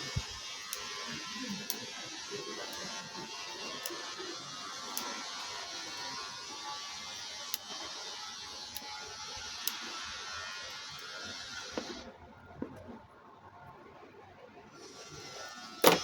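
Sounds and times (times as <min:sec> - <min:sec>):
small machine hissing: 0:00.0 - 0:12.2, 0:14.7 - 0:16.0.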